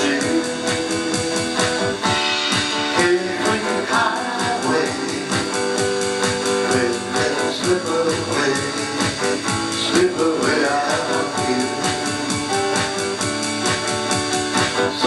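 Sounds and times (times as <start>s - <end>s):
electronic drum beat: 0.0s - 15.0s
strummed guitar: 0.0s - 15.0s.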